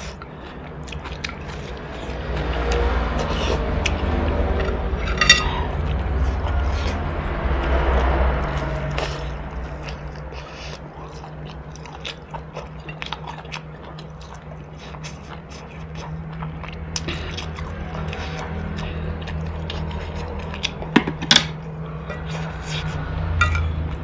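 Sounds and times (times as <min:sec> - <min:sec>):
biting and chewing food: 0:00.0 - 0:24.0.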